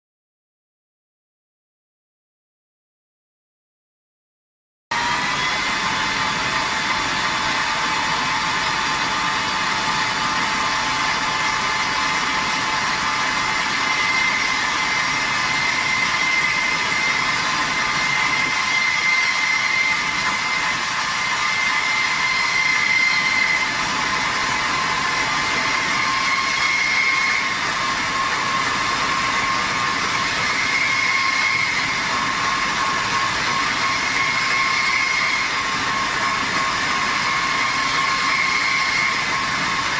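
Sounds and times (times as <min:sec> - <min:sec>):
wire saw cutting steel: 0:04.9 - 0:39.9.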